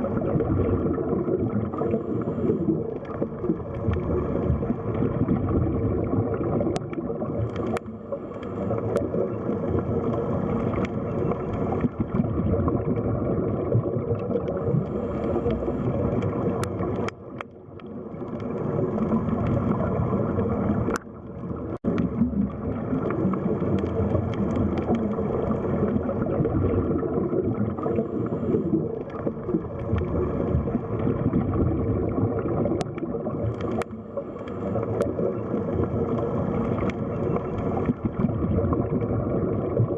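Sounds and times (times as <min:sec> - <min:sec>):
underwater gurgling and rushing water: 0:00.0 - 0:39.9.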